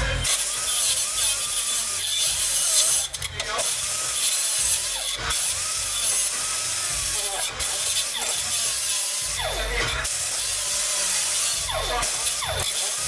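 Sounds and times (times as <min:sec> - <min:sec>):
power tool cutting sheet metal: 0:00.0 - 0:13.0.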